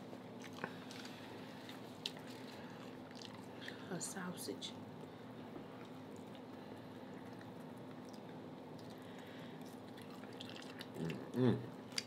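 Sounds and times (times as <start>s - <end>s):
steady low hum: 0.0s - 12.0s
wet chewing: 0.3s - 3.8s, 5.6s - 12.0s.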